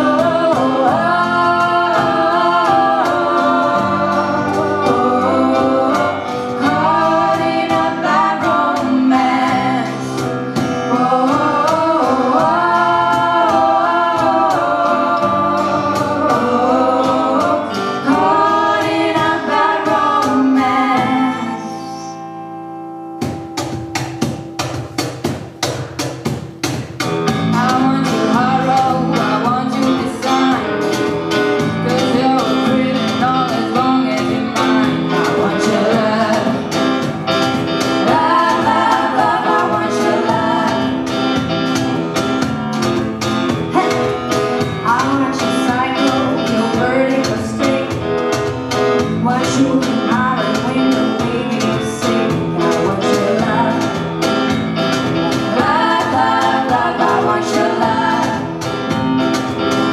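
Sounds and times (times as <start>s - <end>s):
women singing: 0.0s - 22.3s, 27.4s - 42.9s, 43.5s - 59.9s
live band playing: 0.0s - 59.9s.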